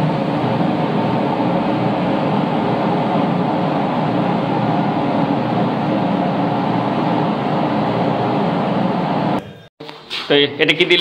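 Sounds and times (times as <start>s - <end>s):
gas burner roaring: 0.0s - 9.4s.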